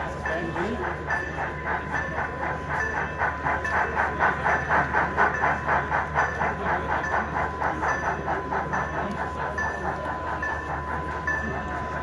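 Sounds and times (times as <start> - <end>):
model steam locomotive chuffing: 0.0 - 12.0.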